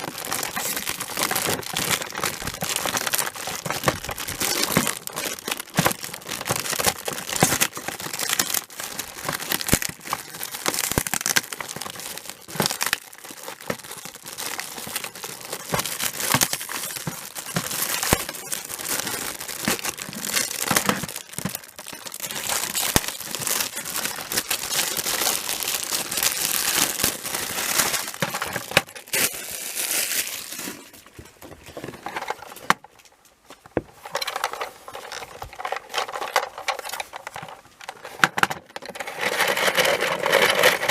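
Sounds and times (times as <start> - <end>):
packaging rustling and crinkling: 0.0 - 40.9.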